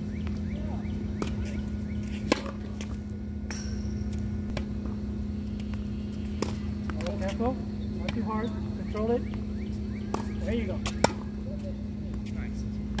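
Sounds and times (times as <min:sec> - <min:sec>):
steady low hum: 0:00.0 - 0:13.0
tennis balls struck by rackets: 0:00.1 - 0:13.0.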